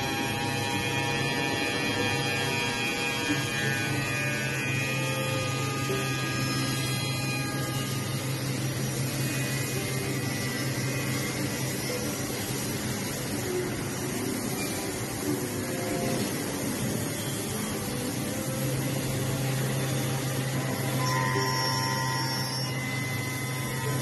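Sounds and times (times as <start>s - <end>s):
electric motor hum: 0.0s - 24.0s
high whining tones: 0.0s - 24.0s.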